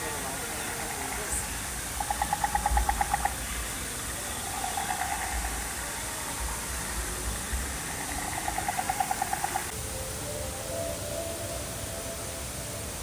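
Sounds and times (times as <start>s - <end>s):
rapid chirping trill: 0.0s - 13.0s
water hissing along channel: 0.0s - 13.0s.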